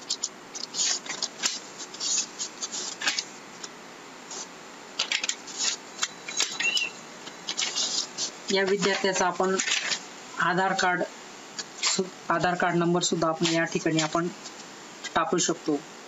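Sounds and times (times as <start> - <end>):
rustling handling noise: 0.0 - 15.3.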